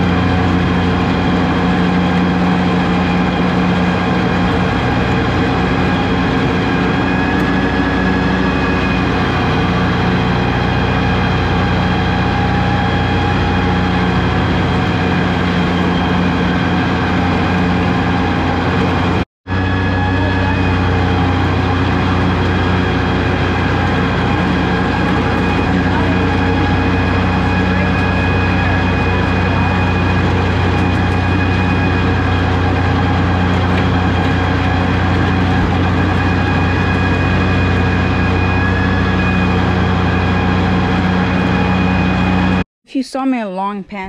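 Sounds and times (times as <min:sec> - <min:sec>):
diesel tractor engine running: 0:00.0 - 0:42.6.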